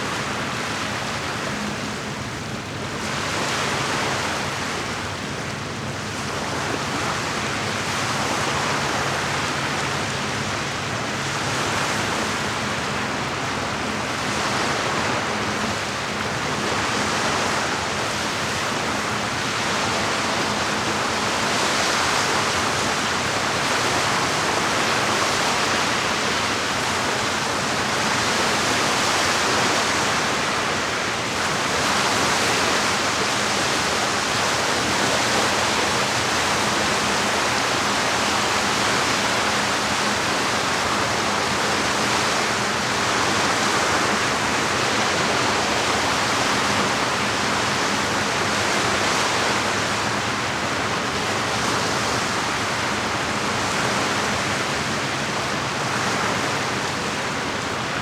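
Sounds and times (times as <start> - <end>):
moving water rushing: 0.0 - 58.0.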